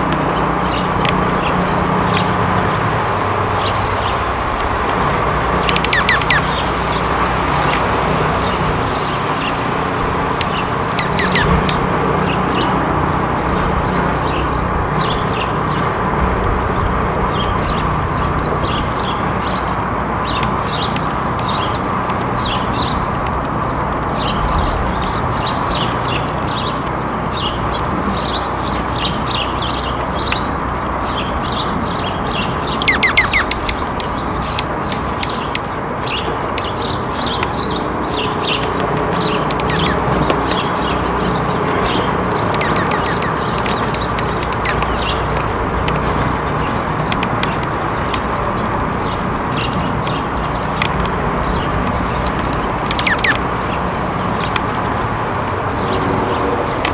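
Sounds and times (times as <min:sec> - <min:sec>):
small birds twittering: 0:00.0 - 0:56.9
steady background noise: 0:00.0 - 0:56.9.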